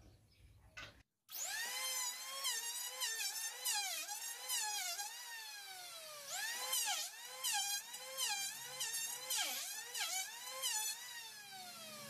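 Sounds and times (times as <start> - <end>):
electric planer cutting wood: 1.3 - 12.0.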